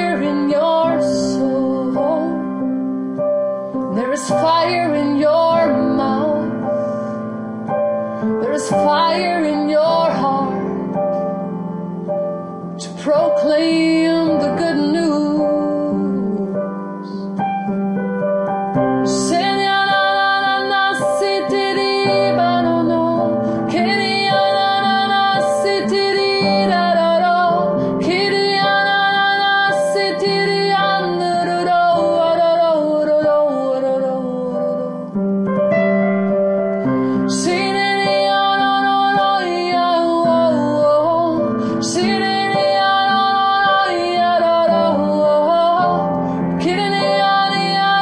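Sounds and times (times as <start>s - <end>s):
woman singing wordless melody: 0.0s - 3.0s, 3.7s - 7.0s, 7.7s - 11.5s, 12.4s - 17.4s, 18.9s - 35.2s, 37.2s - 48.0s
piano playing slow chords: 0.0s - 48.0s.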